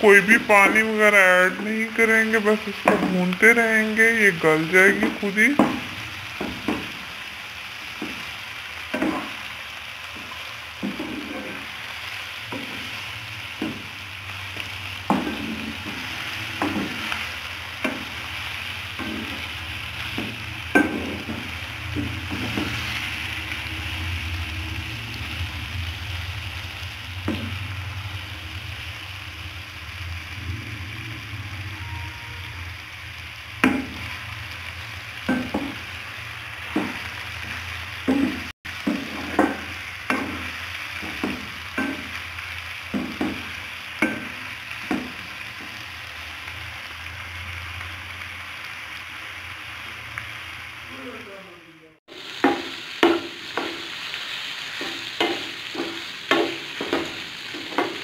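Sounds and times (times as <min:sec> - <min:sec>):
liver sizzling in a pan: 0:00.0 - 0:58.0.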